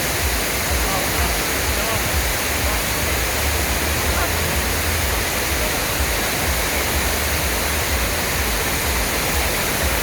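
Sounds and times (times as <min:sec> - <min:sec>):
water pouring and splashing: 0:00.0 - 0:10.0.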